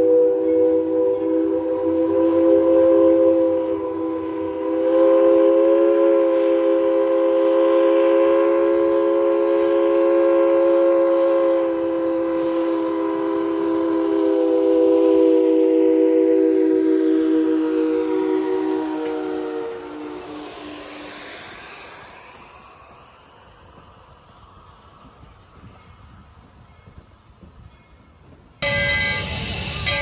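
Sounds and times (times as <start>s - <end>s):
steam locomotive chime whistle: 0.0s - 21.7s, 25.6s - 30.0s.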